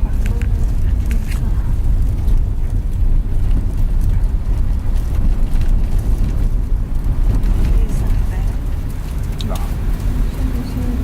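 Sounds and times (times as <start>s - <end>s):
tyres on road: 0.0s - 11.0s
van engine rumble: 0.0s - 11.0s.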